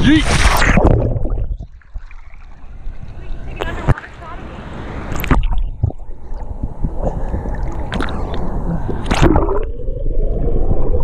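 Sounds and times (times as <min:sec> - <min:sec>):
muffled underwater churning: 0:00.0 - 0:11.0
water splashing: 0:00.0 - 0:11.0.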